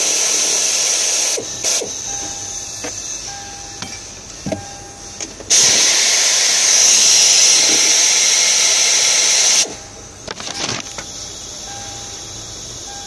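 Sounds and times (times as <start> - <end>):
pneumatic tool hissing: 0.0 - 13.0.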